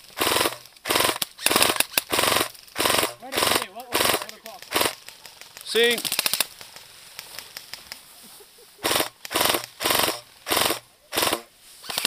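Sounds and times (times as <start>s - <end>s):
airsoft rifles firing bursts: 0.2s - 6.6s, 8.8s - 12.0s.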